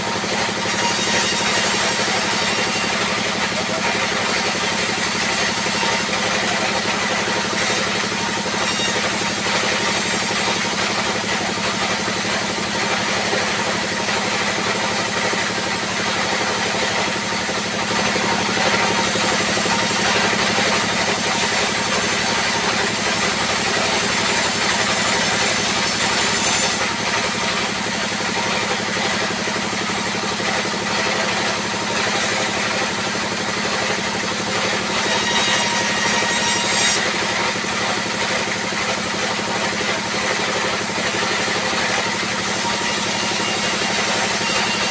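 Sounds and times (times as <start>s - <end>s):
band saw ripping timber: 0.0s - 44.9s.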